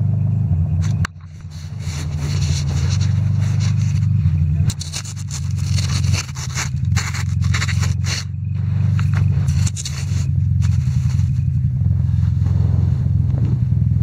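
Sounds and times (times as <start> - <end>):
low engine drone: 0.0 - 14.0
scraping and crunching: 0.8 - 13.5.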